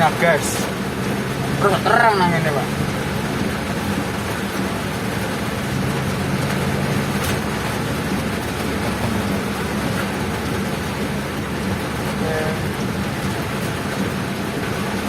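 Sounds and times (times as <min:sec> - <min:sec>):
rain and tyre hiss: 0:00.0 - 0:15.0
vehicle engine drone: 0:00.0 - 0:15.0.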